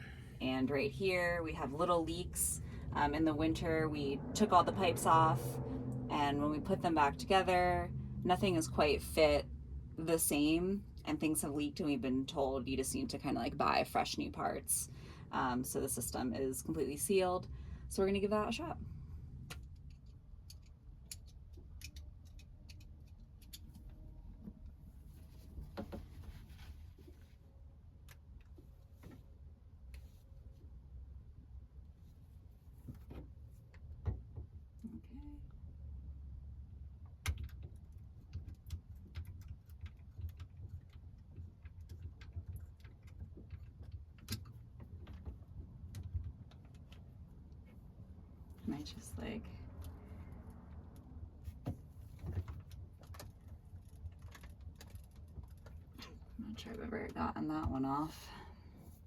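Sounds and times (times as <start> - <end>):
low steady rumble: 0.0 - 59.0.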